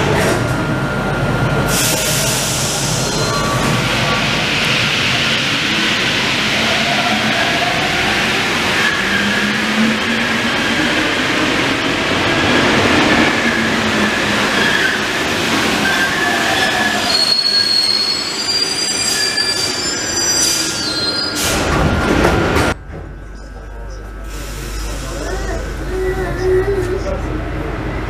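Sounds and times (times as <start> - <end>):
metro train braking to a stop: 0.0 - 28.0.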